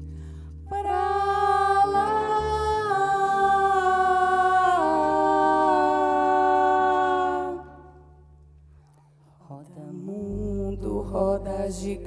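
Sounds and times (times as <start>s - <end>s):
women singing in harmony: 0.6s - 8.2s, 9.6s - 12.0s.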